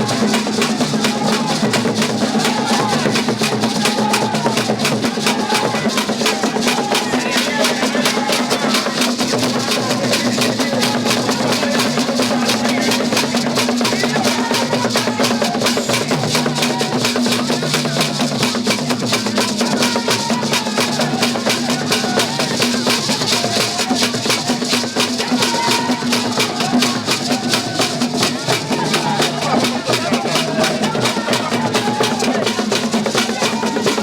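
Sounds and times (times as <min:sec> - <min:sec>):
fast dense drumming: 0:00.0 - 0:34.0.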